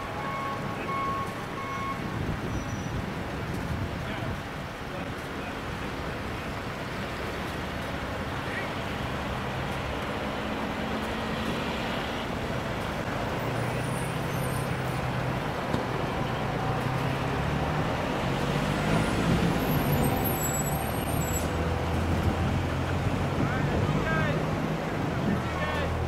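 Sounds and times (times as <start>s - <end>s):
vehicle engines idling: 0.0s - 26.0s.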